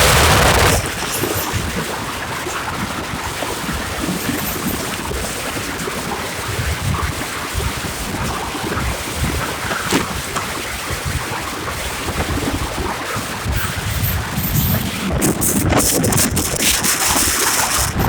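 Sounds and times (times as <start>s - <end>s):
breaking waves: 0.0s - 18.0s
wind buffeting microphone: 0.0s - 18.0s.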